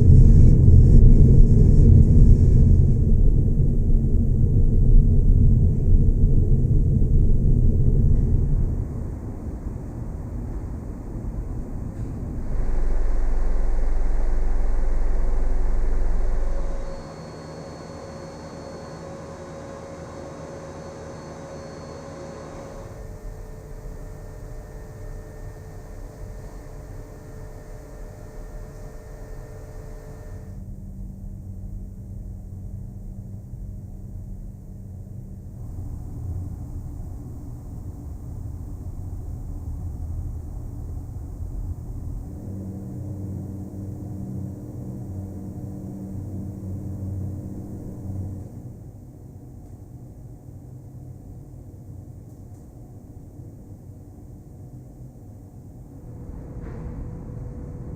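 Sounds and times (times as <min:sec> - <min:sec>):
faint high whine: 0:00.0 - 0:57.9
ventilation rumble: 0:00.0 - 0:57.9.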